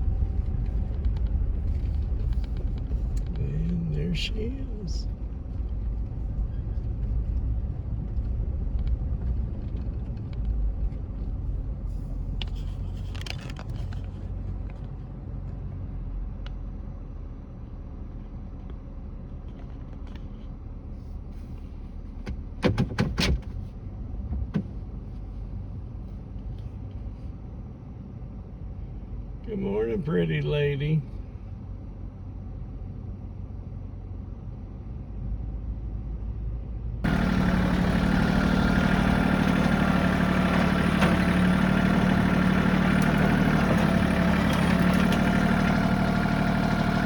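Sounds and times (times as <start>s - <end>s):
vehicle engine low rumble: 0.0s - 47.0s.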